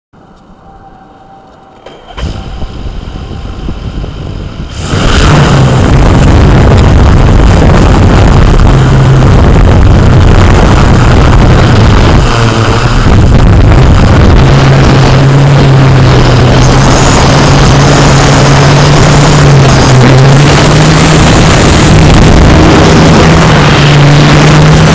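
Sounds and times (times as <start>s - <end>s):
drone motors buzzing: 0.2s - 24.9s.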